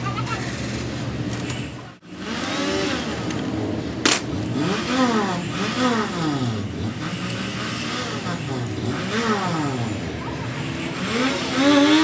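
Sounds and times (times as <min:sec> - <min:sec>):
engine revving up and down: 0:02.0 - 0:12.0.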